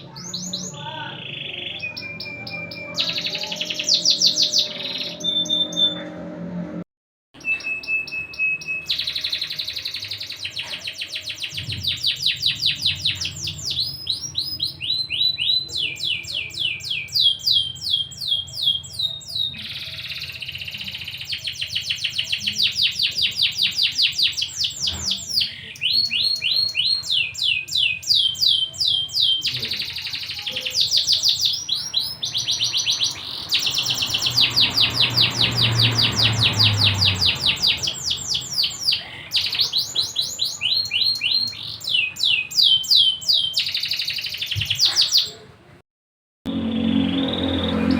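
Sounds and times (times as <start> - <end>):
canary singing rolling trills: 0.0 - 6.2, 7.4 - 45.5, 46.5 - 47.9.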